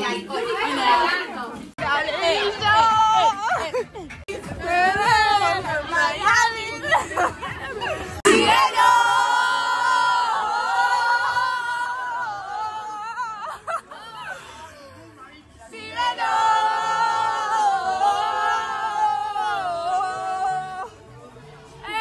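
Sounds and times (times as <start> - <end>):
young women singing a chant: 0.0 - 3.7, 4.3 - 7.6, 8.2 - 13.7, 15.7 - 20.9.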